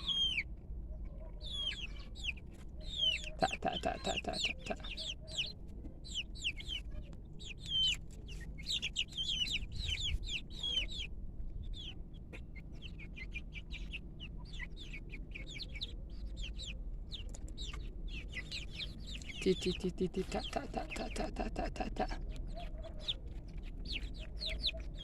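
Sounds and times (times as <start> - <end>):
chickens chirping: 0.0 - 25.0.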